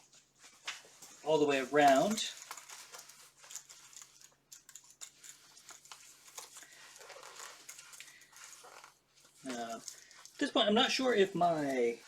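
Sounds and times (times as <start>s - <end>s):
belt rustling and clicking: 0.0s - 10.5s.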